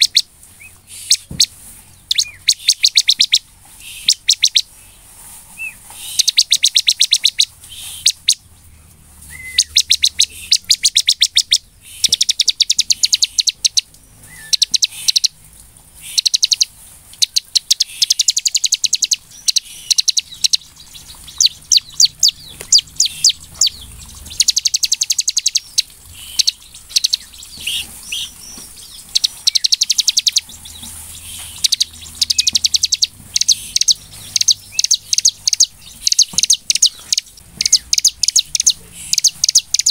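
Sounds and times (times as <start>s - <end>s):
bird singing high trills: 0.0s - 4.7s, 5.6s - 8.5s, 9.2s - 15.4s, 16.0s - 39.9s.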